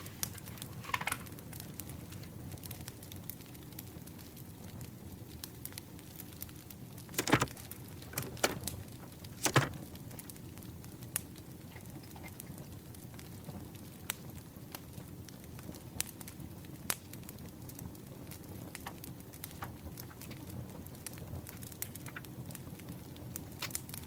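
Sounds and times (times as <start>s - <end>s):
campfire crackling: 1.4s - 24.0s.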